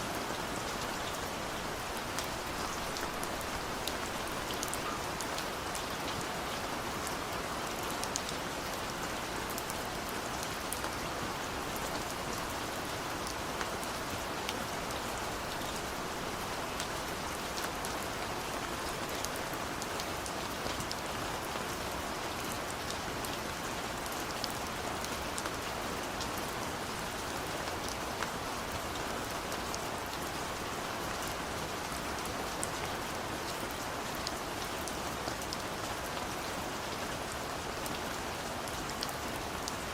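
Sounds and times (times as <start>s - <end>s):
raindrops ticking on surfaces: 0.0s - 39.9s
steady rain hiss: 0.0s - 39.9s.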